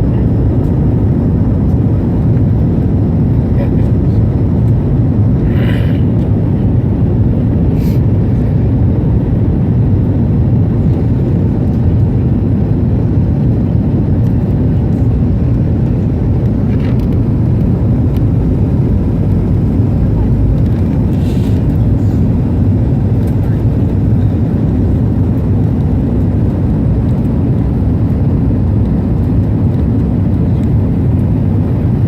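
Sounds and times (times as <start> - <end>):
airliner cabin noise: 0.0 - 32.0.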